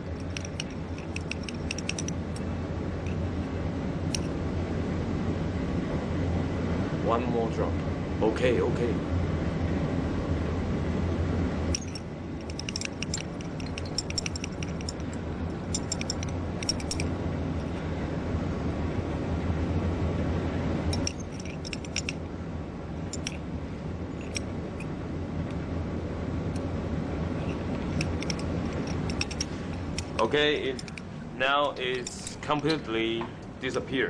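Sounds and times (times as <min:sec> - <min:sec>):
ventilation hum: 0:00.0 - 0:34.0.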